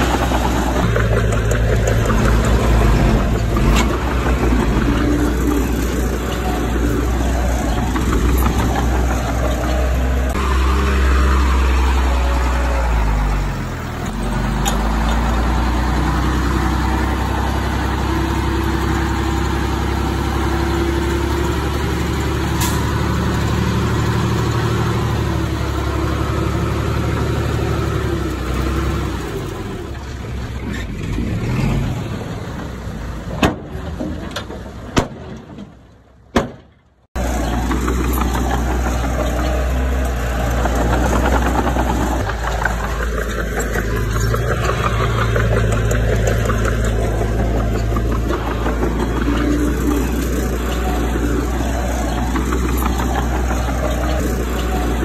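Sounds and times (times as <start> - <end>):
diesel engine running: 0.0 - 36.3, 37.0 - 55.0.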